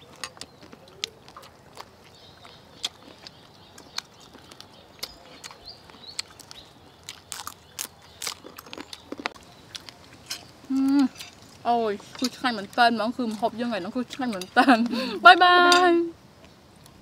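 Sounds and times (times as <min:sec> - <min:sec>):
chewing crispy fried chicken: 0:00.0 - 0:14.2.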